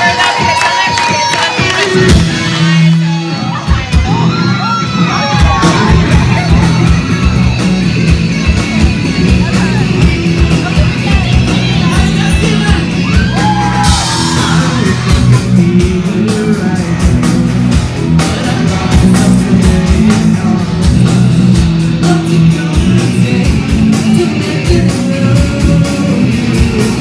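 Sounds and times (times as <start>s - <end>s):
bass guitar: 0.0s - 27.0s
drums: 0.0s - 27.0s
electric guitars: 0.0s - 27.0s
person singing: 5.2s - 27.0s.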